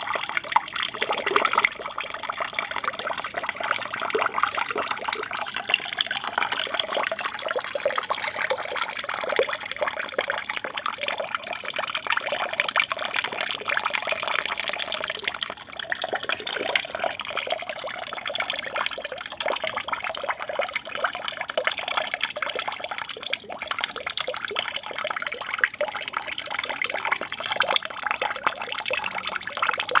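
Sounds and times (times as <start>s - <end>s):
water trickling into aquarium: 0.0s - 30.0s.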